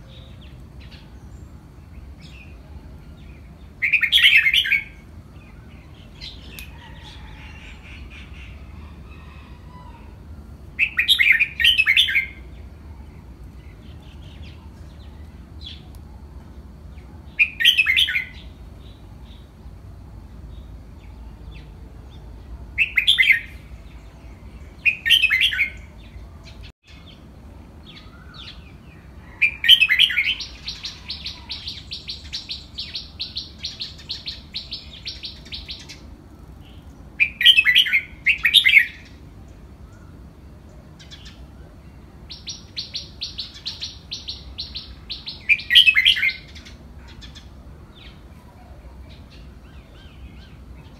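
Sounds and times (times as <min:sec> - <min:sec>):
bulbuls singing: 0:00.0 - 0:50.9.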